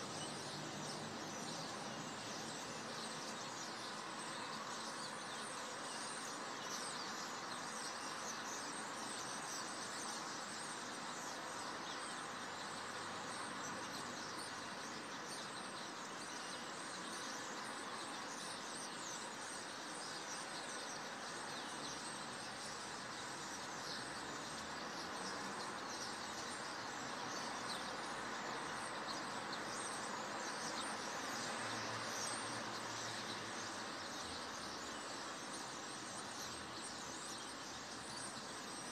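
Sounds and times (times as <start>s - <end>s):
background noise: 0.0s - 38.9s.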